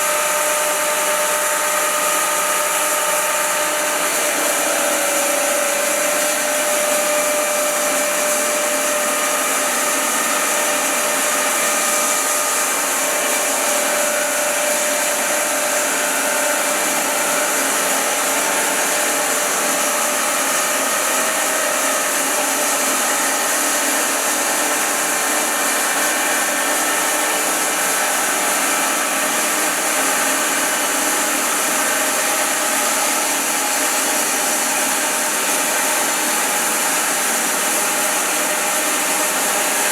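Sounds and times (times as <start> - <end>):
bandsaw mill sawing log: 0.0 - 39.9.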